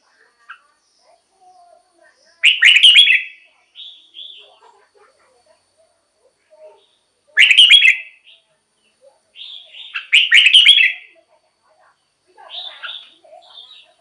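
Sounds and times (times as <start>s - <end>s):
bird chirping song: 0.0s - 6.0s, 6.6s - 11.2s, 12.4s - 14.0s.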